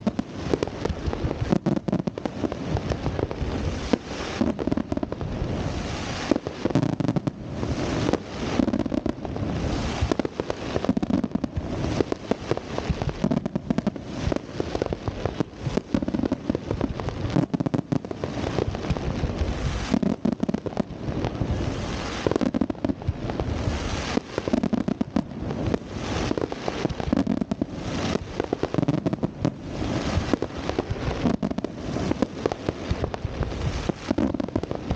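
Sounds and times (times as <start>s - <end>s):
fireworks booming: 0.0s - 34.9s
fireworks crackling: 0.0s - 34.9s.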